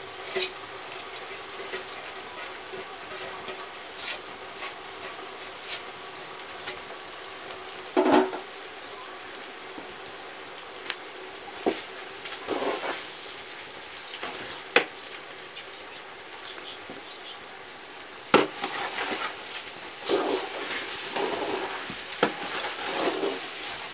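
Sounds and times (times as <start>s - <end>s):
wood fire crackling and hissing: 0.0s - 23.9s.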